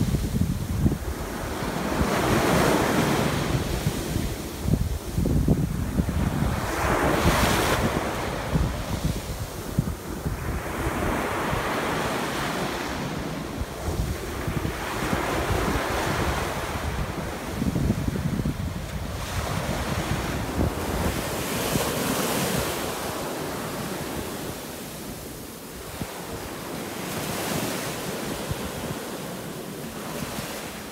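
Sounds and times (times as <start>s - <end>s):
wind buffeting microphone: 0.0s - 30.8s
small waves washing onto sand: 0.0s - 30.9s.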